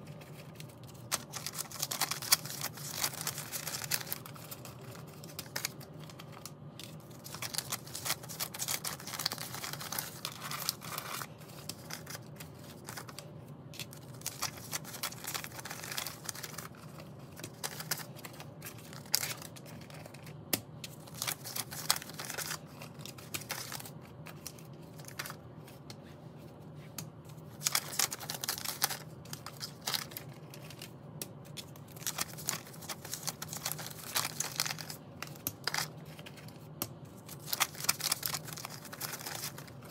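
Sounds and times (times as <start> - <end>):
paper banknotes crinkling: 0.0 - 25.8, 27.3 - 39.9.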